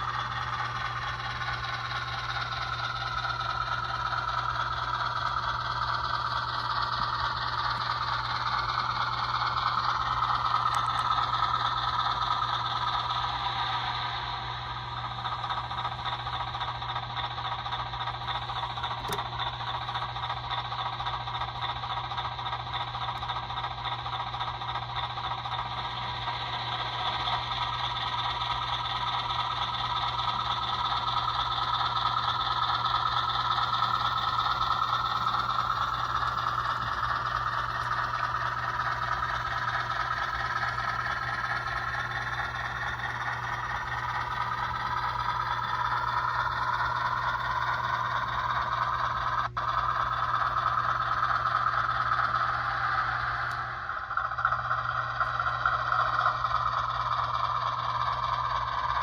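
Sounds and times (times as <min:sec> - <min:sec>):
model train diesel engine sound: 0:00.0 - 0:59.0.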